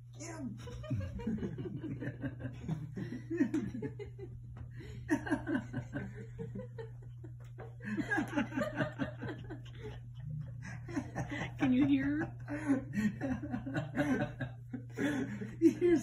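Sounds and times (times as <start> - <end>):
person laughing: 0.6 - 16.0.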